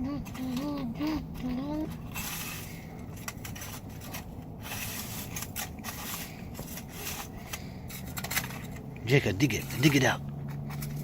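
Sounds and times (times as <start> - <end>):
toy digger scraping snow: 1.4 - 11.0.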